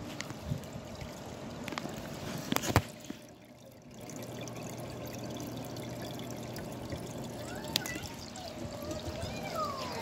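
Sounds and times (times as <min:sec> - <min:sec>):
low steady hum: 0:00.0 - 0:10.0
water trickling and pouring: 0:00.0 - 0:10.0.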